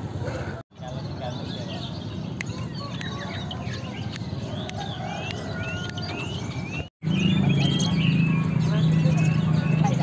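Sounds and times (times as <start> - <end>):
birds chirping and whistling: 0.8 - 10.0.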